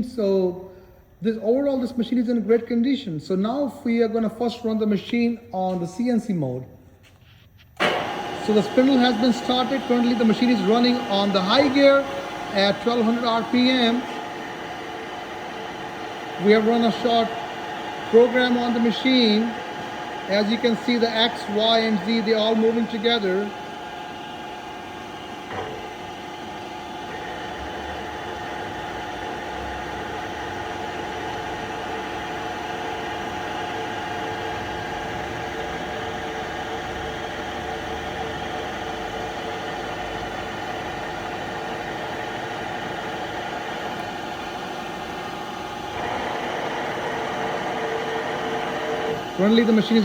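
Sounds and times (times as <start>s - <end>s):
milling machine whine: 7.8s - 50.0s.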